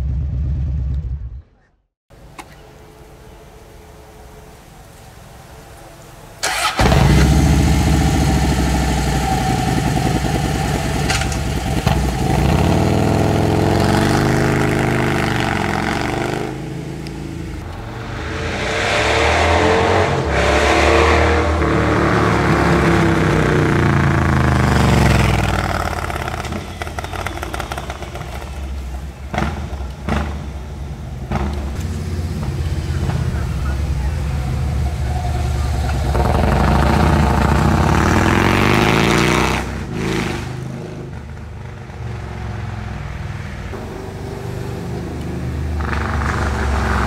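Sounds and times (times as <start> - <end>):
motorcycle engine revving: 6.4 - 47.0.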